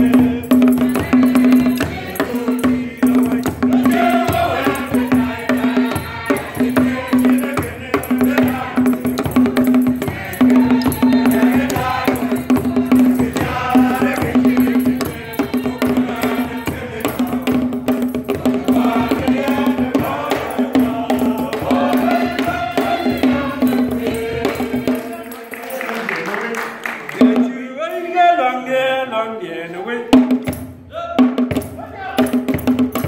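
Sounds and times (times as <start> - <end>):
choir singing in rhythm: 0.0 - 26.2, 26.8 - 31.2
percussion: 0.0 - 28.9, 29.9 - 33.0.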